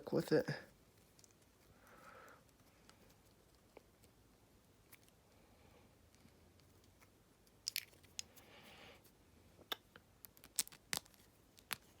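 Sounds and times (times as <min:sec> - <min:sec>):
wires clicking and scraping: 0:00.7 - 0:12.0.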